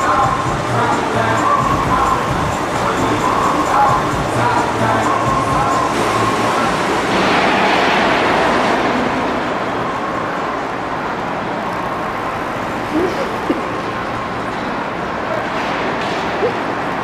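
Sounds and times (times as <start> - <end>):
car driving away: 0.0 - 17.0.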